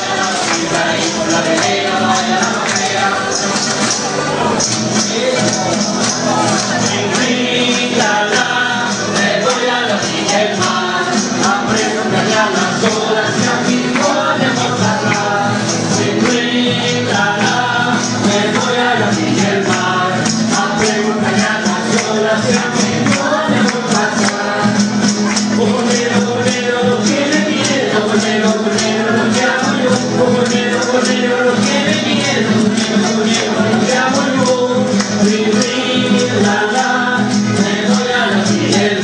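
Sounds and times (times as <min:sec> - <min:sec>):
person singing: 0:00.0 - 0:39.0
rattling shaken percussion: 0:00.0 - 0:39.0.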